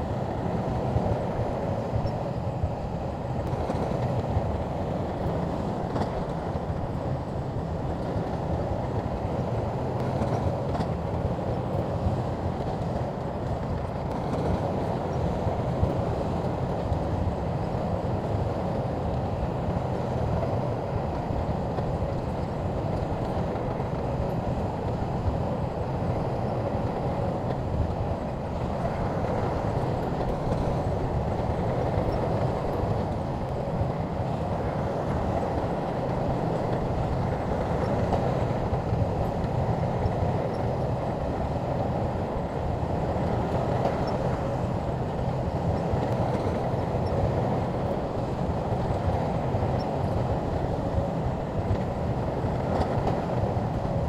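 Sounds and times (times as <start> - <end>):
bulldozer engine and tracks rumbling: 0.0 - 54.0.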